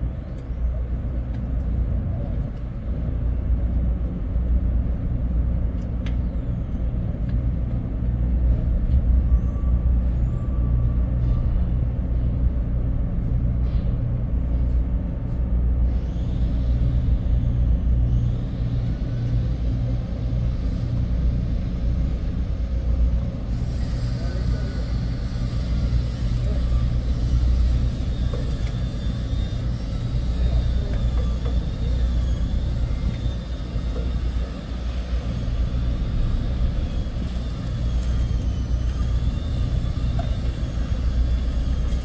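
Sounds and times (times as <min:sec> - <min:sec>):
ship machinery low drone: 0:00.0 - 0:42.0.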